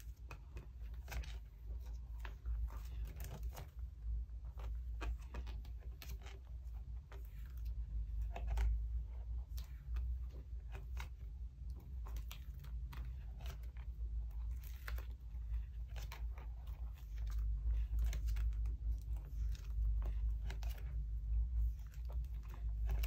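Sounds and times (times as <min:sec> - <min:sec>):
plastic sleeves crinkling: 0:00.0 - 0:23.0.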